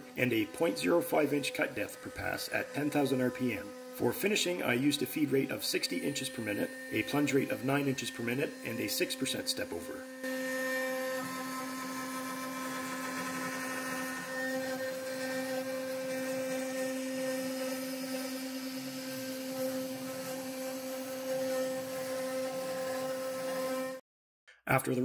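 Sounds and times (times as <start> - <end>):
router spindle whine: 0.0 - 24.0
wood cutting noise: 0.0 - 24.0.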